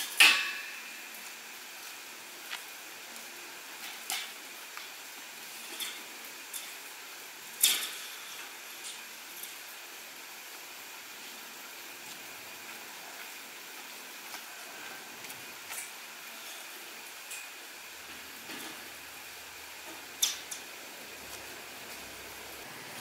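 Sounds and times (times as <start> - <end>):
faint hiss: 0.0 - 23.0.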